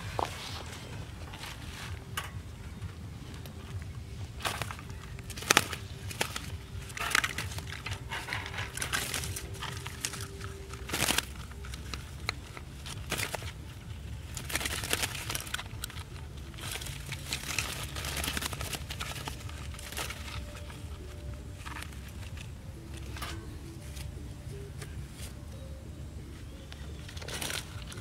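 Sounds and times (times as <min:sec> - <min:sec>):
paper crinkling and rustling: 0:00.0 - 0:25.8, 0:26.4 - 0:28.0.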